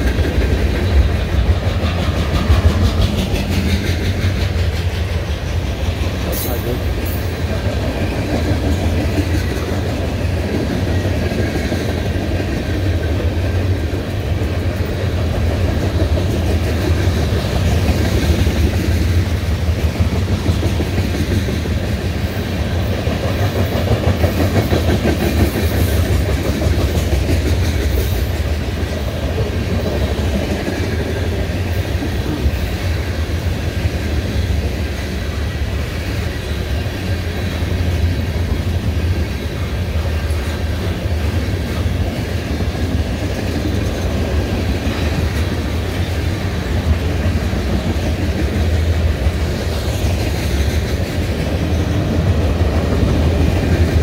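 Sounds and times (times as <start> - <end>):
steel wheels clattering over rail joints: 0.0 - 54.0.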